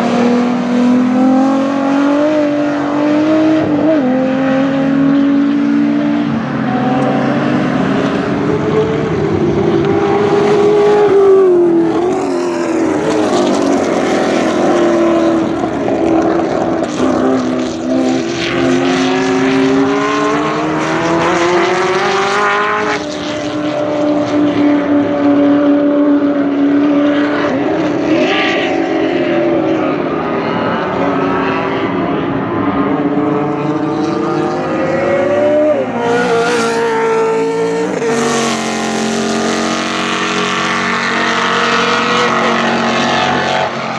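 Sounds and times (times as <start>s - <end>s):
racing car engines at high revs: 0.0s - 43.9s.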